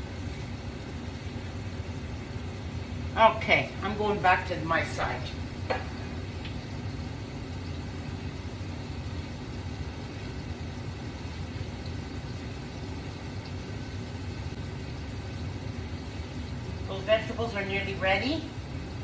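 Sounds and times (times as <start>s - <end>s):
kitchen fan humming: 0.0s - 19.0s.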